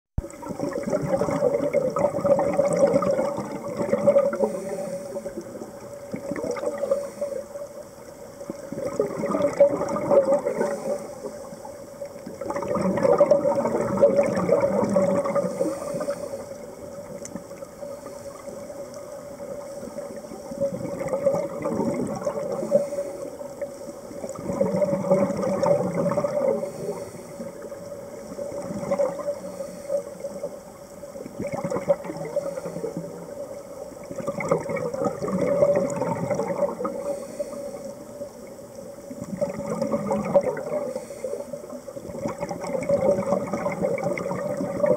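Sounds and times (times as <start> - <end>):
exhaled bubbles rushing underwater: 0.2 - 44.9.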